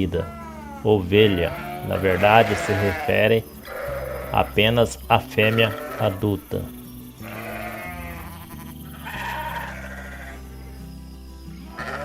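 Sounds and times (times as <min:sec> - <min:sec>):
sheep bleating: 0:00.0 - 0:10.8, 0:11.6 - 0:12.0.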